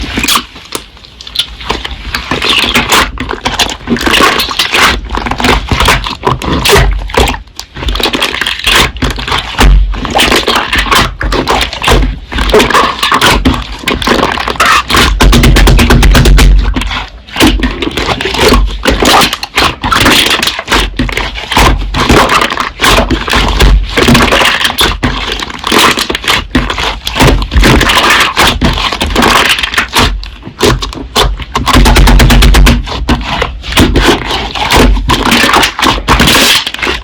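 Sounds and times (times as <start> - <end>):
slime squeezed crackling and popping: 0.0 - 37.0.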